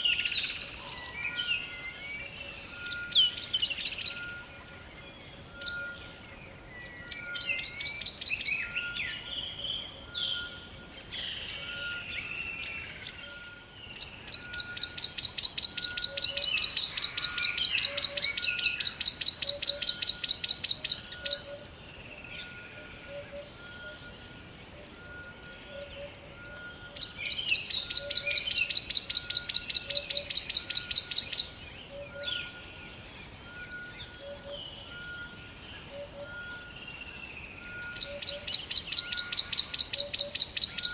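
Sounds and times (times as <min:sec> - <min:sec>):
birds chirping and whistling: 0:00.0 - 0:40.9.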